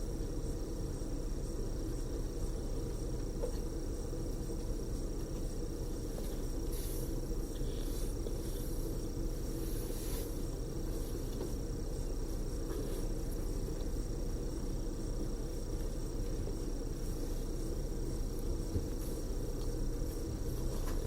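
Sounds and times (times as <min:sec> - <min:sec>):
low rumble of engine and tyres: 0:00.0 - 0:21.0.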